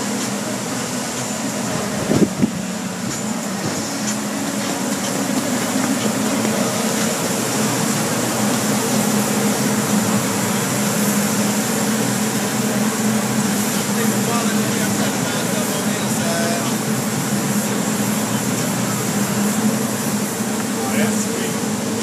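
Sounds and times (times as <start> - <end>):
air dryers blowing: 0.0 - 22.0.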